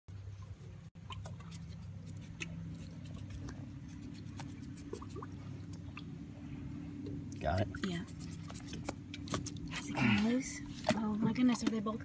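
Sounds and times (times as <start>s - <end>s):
steady low hum: 0.1s - 12.0s
light water splashes: 0.2s - 12.0s.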